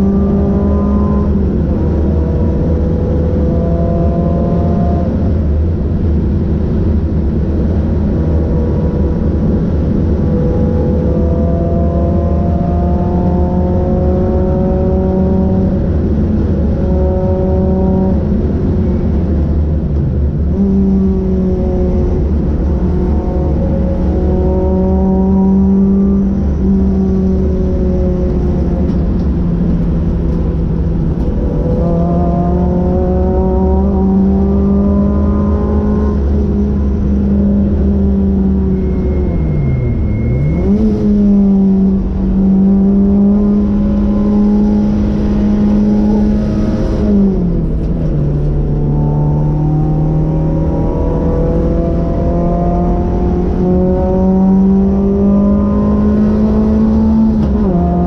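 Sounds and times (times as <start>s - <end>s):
car engine accelerating: 0.0s - 58.0s
road and wind rumble: 0.0s - 58.0s.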